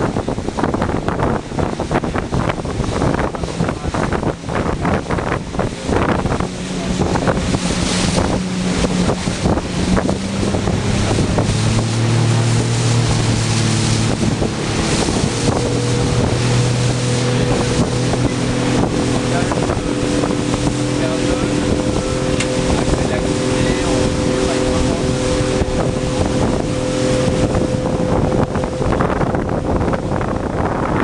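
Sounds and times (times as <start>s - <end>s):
motorboat engine running: 0.0s - 31.0s
water splashing against hull: 0.0s - 31.0s
wind buffeting microphone: 0.0s - 31.0s.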